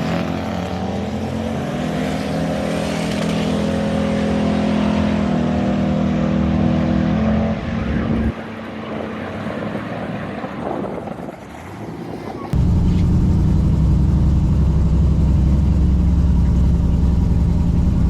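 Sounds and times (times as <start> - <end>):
engine at full throttle: 0.0 - 11.0, 12.5 - 18.0.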